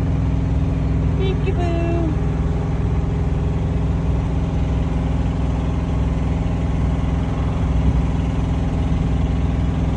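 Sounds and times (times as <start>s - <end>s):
truck diesel engine idling: 0.0s - 9.9s.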